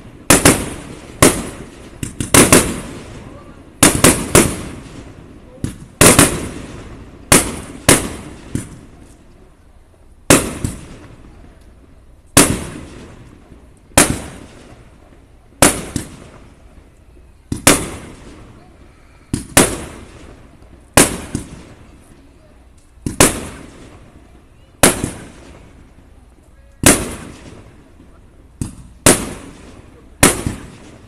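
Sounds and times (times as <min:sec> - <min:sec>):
firework bangs with echo: 0:00.0 - 0:09.0, 0:10.2 - 0:11.3, 0:12.4 - 0:14.9, 0:15.6 - 0:16.6, 0:17.5 - 0:22.1, 0:23.0 - 0:25.8, 0:26.8 - 0:31.0.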